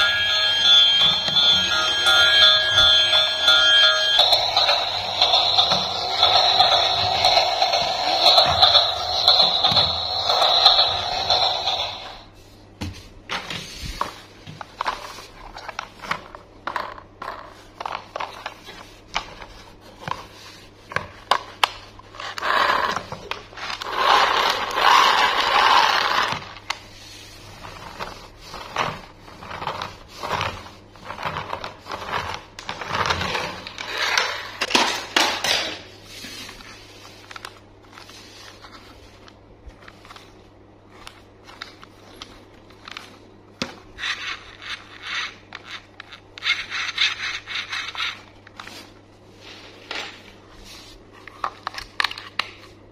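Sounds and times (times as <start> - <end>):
plastic toys scraping and rattling: 0.0 - 12.2, 13.3 - 40.3, 40.9 - 52.4.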